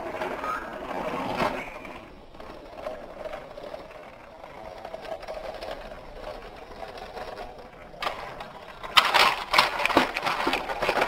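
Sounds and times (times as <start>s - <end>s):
wheels clicking and rattling: 0.0s - 11.0s.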